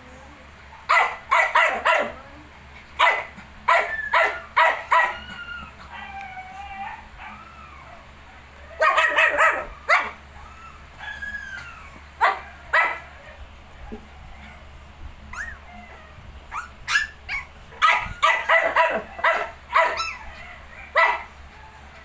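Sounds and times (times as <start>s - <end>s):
puppies yipping: 3.0s - 14.7s, 15.3s - 22.0s
puppies whimpering: 3.7s - 22.0s.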